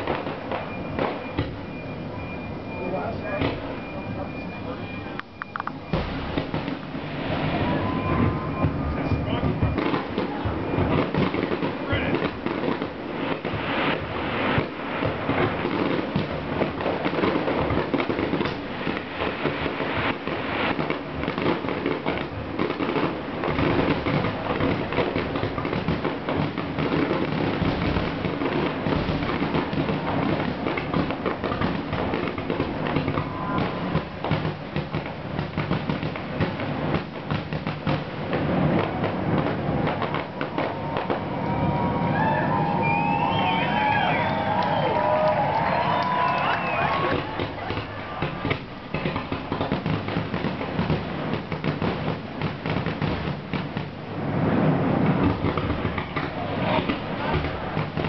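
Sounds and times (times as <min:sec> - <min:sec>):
aerial fireworks barrage: 0:00.0 - 0:58.0.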